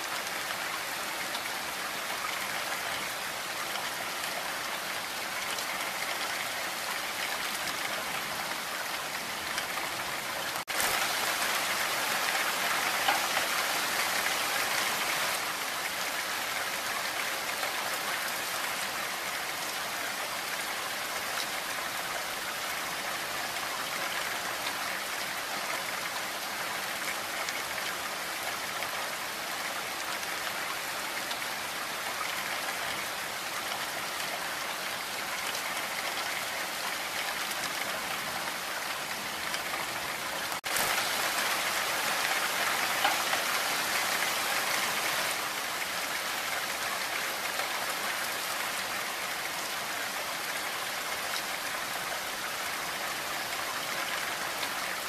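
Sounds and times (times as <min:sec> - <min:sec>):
heavy rain through trees: 0:00.0 - 0:55.0.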